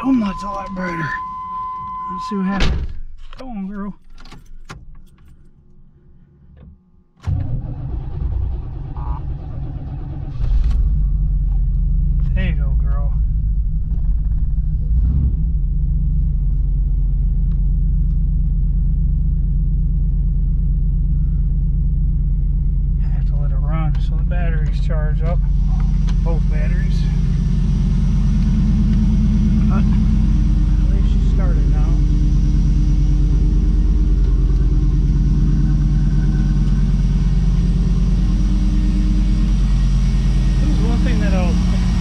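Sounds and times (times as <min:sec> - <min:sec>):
car engine idling: 0:07.2 - 0:42.0.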